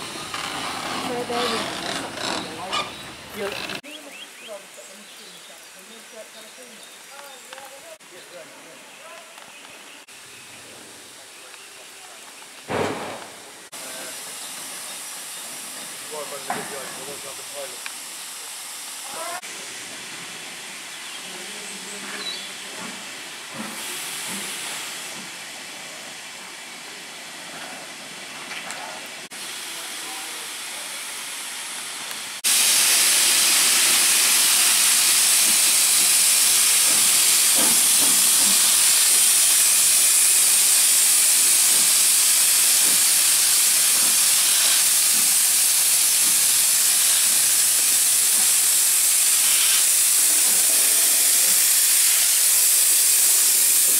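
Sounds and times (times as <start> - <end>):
steam hissing loudly: 0.0 - 4.0, 10.0 - 53.9.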